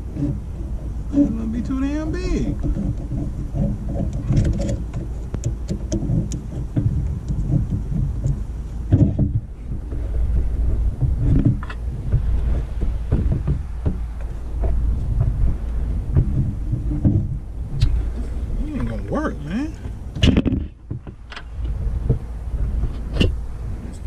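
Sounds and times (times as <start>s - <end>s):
low rumble on microphone: 0.0s - 24.0s
rubber hose knocking and rubbing: 0.0s - 24.0s.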